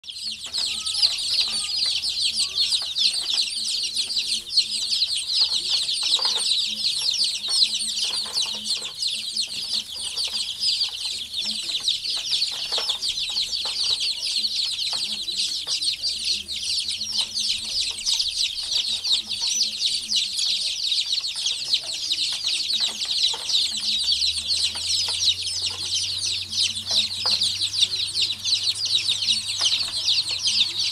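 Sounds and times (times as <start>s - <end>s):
baby chicks peeping: 0.0s - 30.9s.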